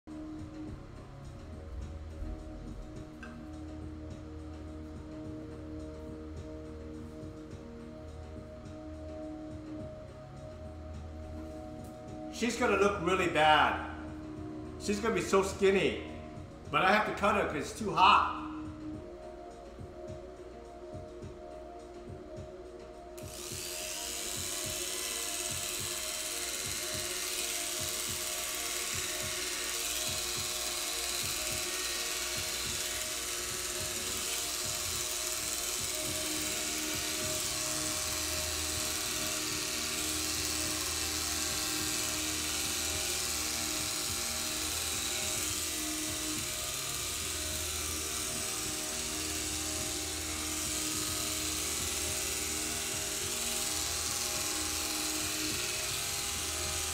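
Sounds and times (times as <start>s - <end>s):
electric hair clippers buzzing: 0.1s - 20.2s, 22.3s - 56.9s.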